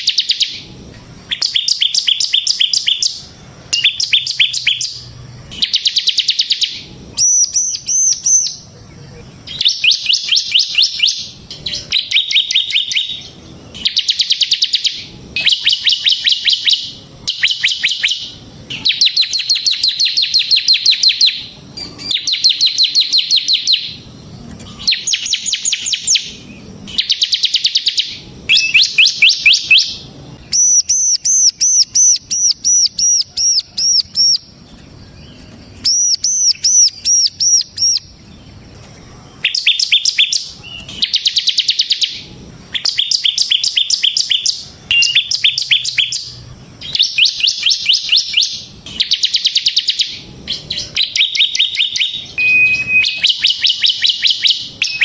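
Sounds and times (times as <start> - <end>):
bird whistling: 0.0 - 24.1, 24.7 - 34.5, 35.8 - 38.2, 39.4 - 55.0
bird trilling: 0.0 - 38.3, 39.4 - 55.0.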